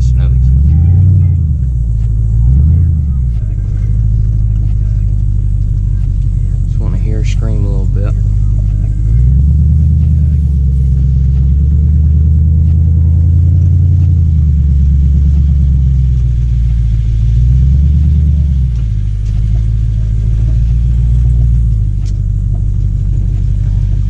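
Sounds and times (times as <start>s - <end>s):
car exhaust rumbling loudly: 0.0s - 24.0s.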